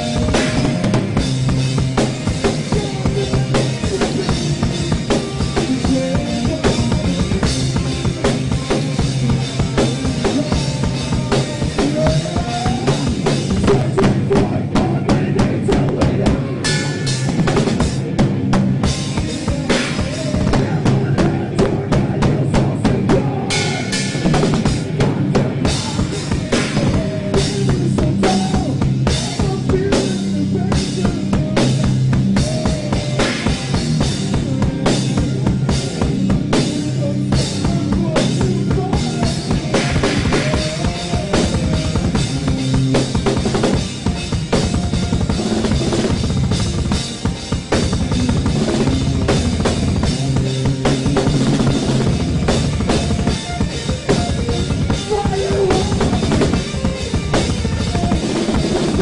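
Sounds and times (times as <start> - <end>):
band holding notes: 0.0 - 59.0
drum kit played fast: 0.0 - 59.0.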